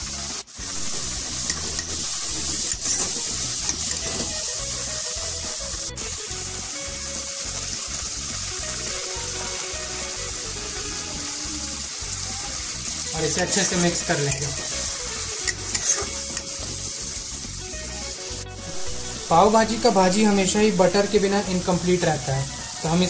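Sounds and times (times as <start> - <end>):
masala sizzling in oil: 0.0 - 23.0
water splashing into hot pan: 0.0 - 23.0.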